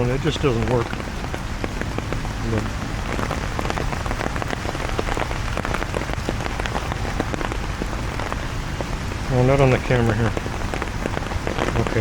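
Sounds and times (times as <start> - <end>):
rain on an umbrella: 0.0 - 12.0.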